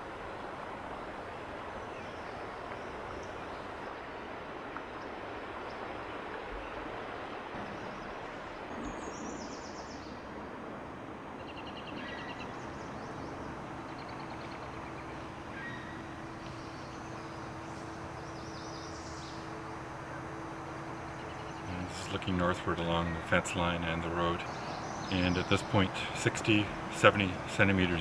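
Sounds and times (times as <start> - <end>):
outdoor background rush: 0.0 - 28.0
songbirds singing trills: 1.2 - 4.2, 4.8 - 10.5, 11.3 - 28.0.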